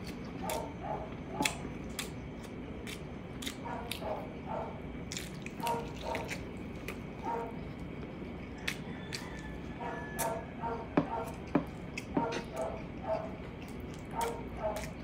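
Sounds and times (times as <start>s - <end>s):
wet chewing and lip smacking: 0.0s - 4.3s, 5.1s - 15.0s.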